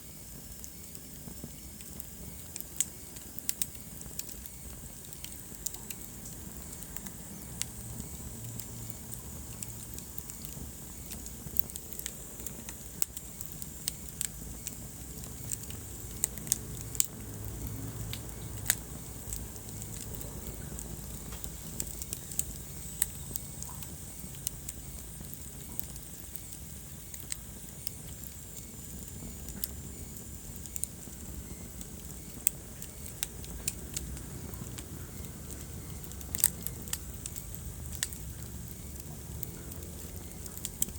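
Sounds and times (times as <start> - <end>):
low rumble and hiss of flames: 0.0 - 40.9
wood fire crackling: 0.0 - 40.9.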